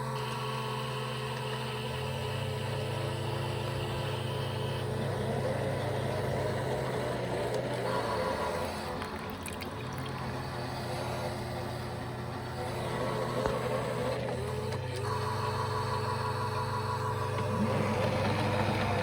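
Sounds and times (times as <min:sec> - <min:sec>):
toy washing machine motors humming: 0:00.0 - 0:19.0.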